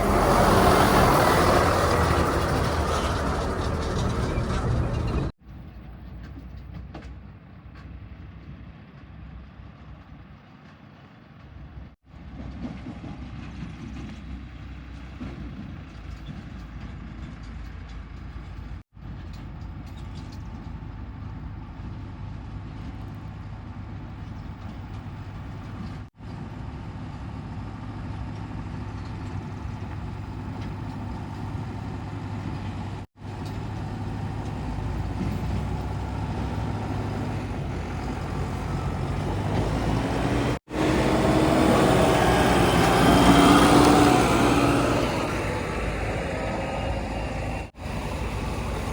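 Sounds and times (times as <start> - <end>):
heavy diesel engines running: 0.0 - 6.8, 7.9 - 48.9.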